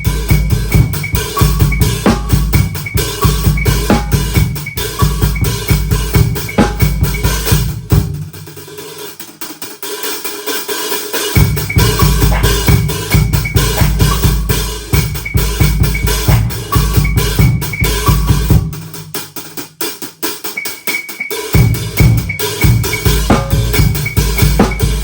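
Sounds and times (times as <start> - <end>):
acoustic drum kit playing: 0.0 - 25.0.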